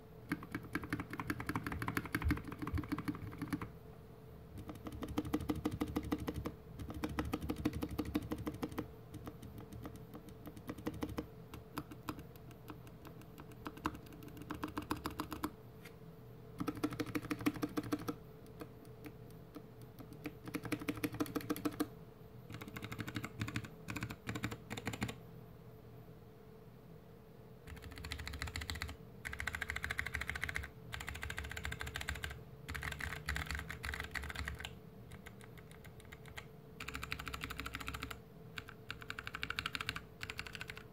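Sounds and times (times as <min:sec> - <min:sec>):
mechanical keyboard typing: 0:00.3 - 0:03.7, 0:04.6 - 0:15.5, 0:16.6 - 0:21.9, 0:22.5 - 0:25.2, 0:27.6 - 0:40.9.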